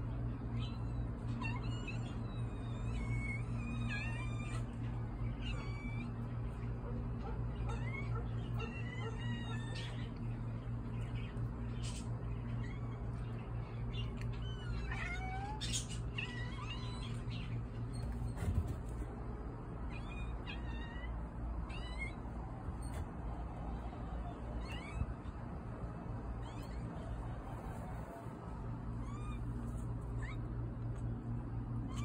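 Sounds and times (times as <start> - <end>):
steady low hum: 0.0 - 32.0
cats meowing: 0.1 - 17.9, 19.9 - 31.0, 31.8 - 32.0.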